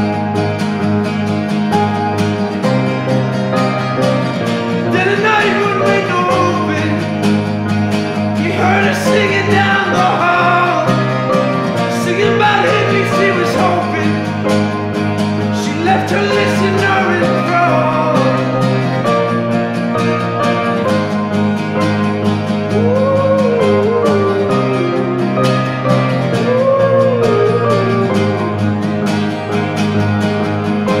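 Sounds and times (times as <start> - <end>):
acoustic guitar: 0.0 - 31.0
piano: 0.0 - 31.0.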